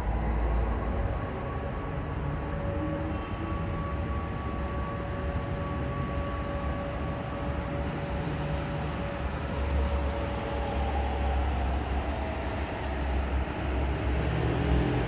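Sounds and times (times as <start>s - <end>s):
distant air-raid siren: 0.0s - 15.0s.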